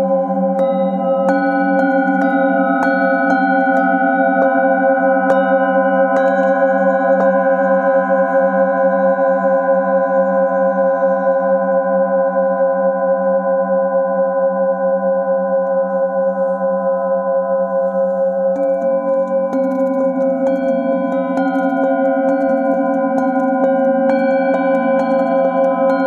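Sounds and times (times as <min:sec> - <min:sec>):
singing bowls ringing: 0:00.0 - 0:26.0.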